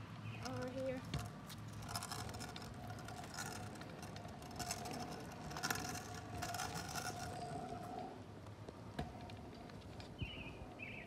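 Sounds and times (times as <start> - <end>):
scooter wheels rolling on asphalt: 0.0 - 11.0.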